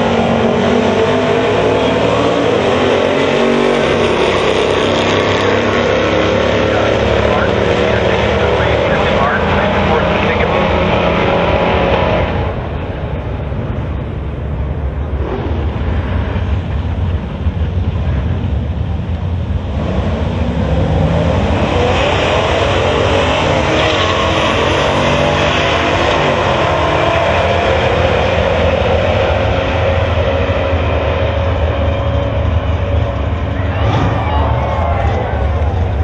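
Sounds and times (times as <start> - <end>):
cars accelerating hard: 0.0 - 36.0
drag racing engines at full throttle: 0.0 - 36.0.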